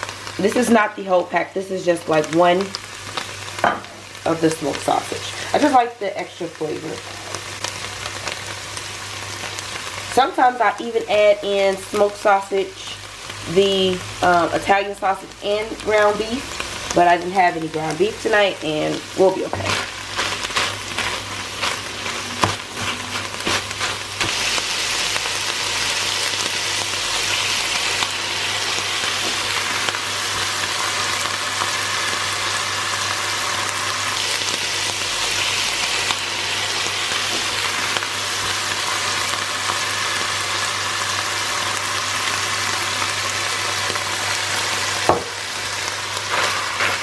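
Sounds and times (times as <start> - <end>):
sausage and onions sizzling: 0.0 - 47.0.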